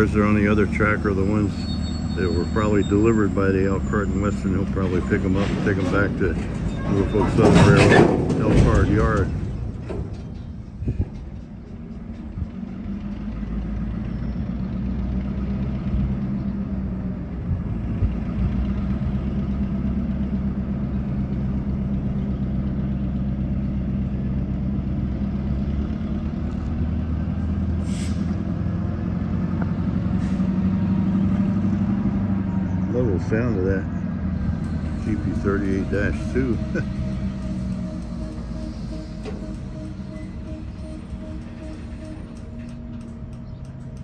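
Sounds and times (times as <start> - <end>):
diesel locomotive engine drone: 0.0 - 44.0.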